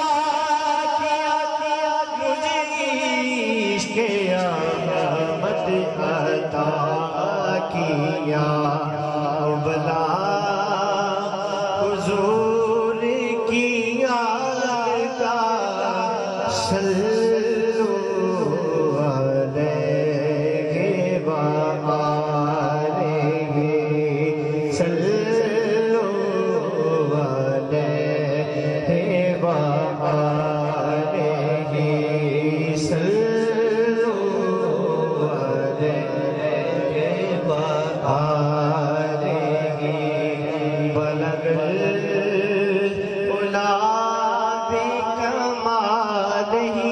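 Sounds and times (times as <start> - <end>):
man singing into microphone: 0.0 - 46.9.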